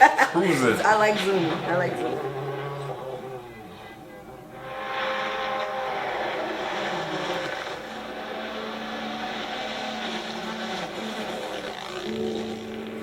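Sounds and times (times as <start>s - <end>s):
rally car engine at high revs: 1.5s - 13.0s
road and tyre noise: 2.3s - 13.0s.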